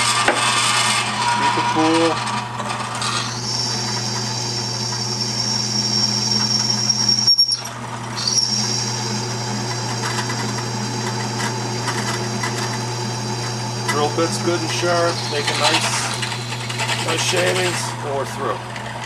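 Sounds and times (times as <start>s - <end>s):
drill bit cutting whine: 0.0s - 19.0s
drill press motor hum: 0.0s - 19.0s.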